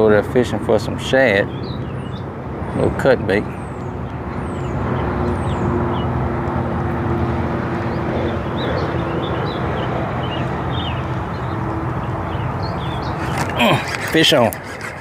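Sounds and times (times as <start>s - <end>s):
small birds chirping: 0.4s - 6.6s, 7.7s - 15.0s
rushing background noise: 1.8s - 15.0s.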